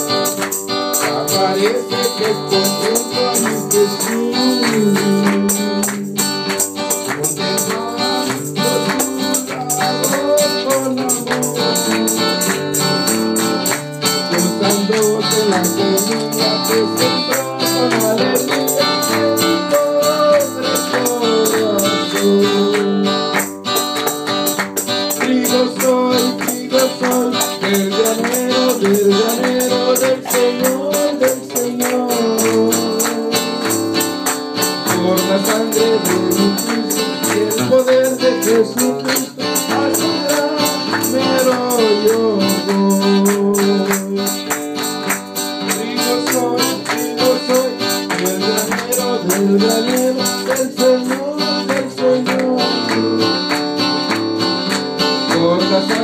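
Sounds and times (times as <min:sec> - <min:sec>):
hand-clapping: 0:00.0 - 0:56.0
strummed acoustic guitar: 0:00.0 - 0:56.0
man singing into microphone: 0:00.9 - 0:23.5, 0:25.0 - 0:44.7, 0:45.6 - 0:53.6, 0:55.1 - 0:56.0.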